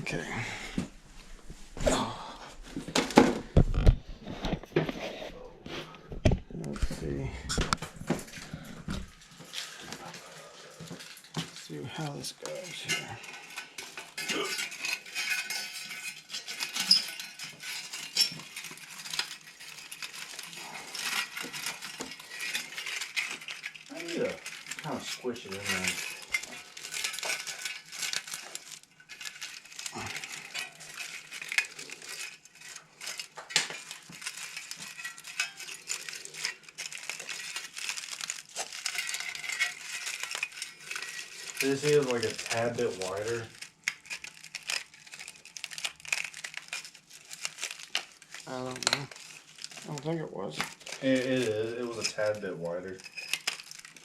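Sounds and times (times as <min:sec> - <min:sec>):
scratchy rustling: 0:08.2 - 0:54.0.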